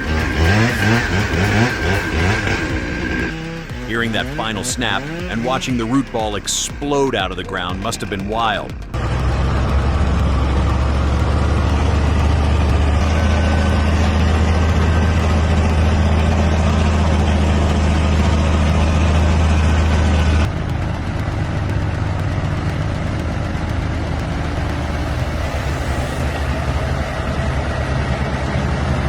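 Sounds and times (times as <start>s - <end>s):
heavy truck engine running: 0.0s - 29.0s.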